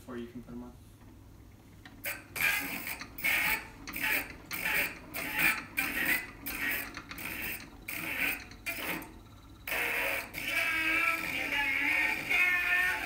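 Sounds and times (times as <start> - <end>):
gramophone turntable spinning: 1.1 - 13.0
mechanical rasp: 2.0 - 13.0.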